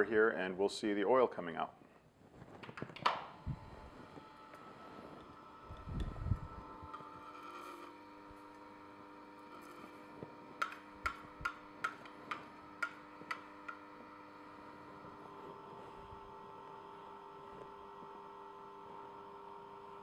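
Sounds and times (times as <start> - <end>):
juicer humming: 3.1 - 20.0.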